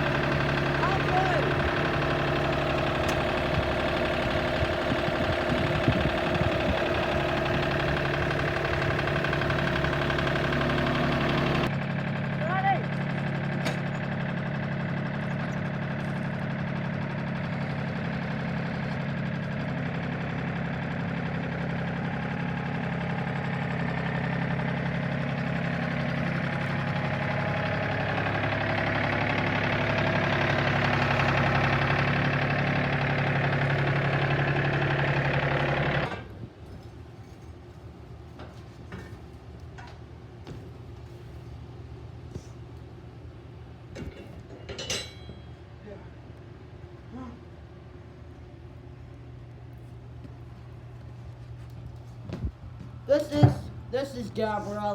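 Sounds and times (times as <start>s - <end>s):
tractor engine running: 0.0s - 44.6s, 48.4s - 54.9s.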